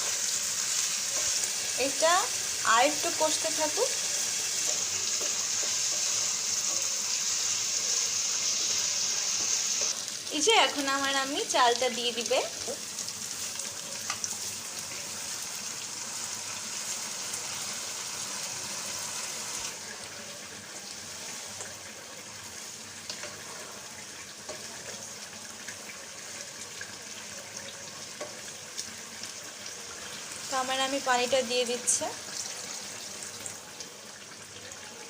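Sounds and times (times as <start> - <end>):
spice paste sizzling in a pot: 0.0 - 35.0.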